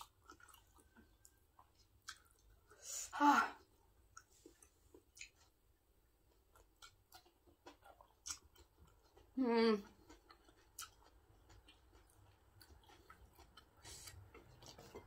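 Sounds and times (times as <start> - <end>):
faint chewing: 0.0 - 3.0, 3.6 - 15.0.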